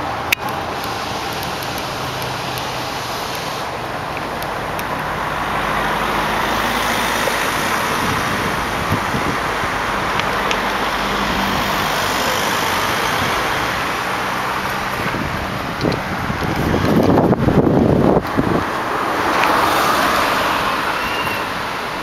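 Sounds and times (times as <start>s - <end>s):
road and wind noise: 0.0s - 22.0s
truck engine driving away: 0.0s - 22.0s.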